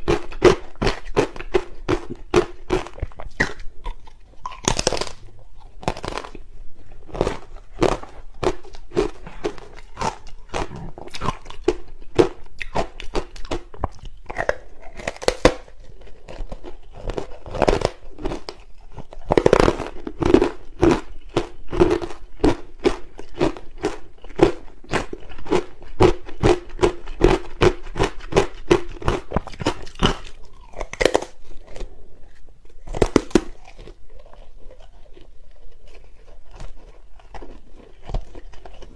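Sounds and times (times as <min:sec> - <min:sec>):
ice being bitten and chewed: 0:00.0 - 0:38.9.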